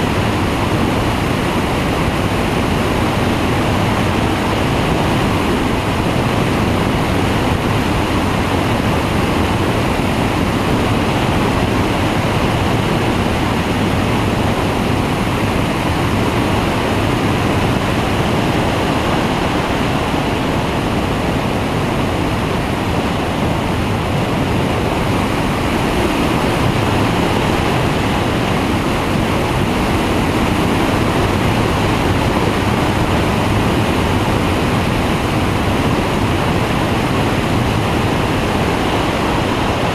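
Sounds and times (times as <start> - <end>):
propeller engine droning: 0.0 - 39.9
wind rushing over microphone: 0.0 - 39.9.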